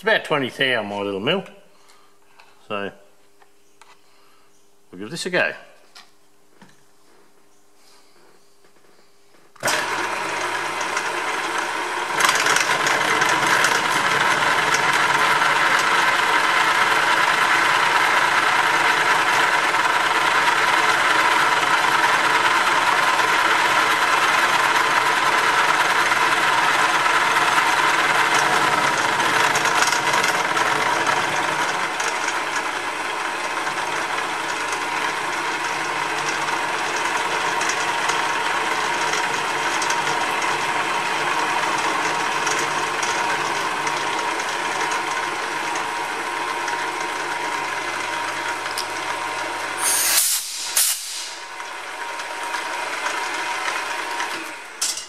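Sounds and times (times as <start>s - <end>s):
milling machine cutting: 9.6s - 54.8s.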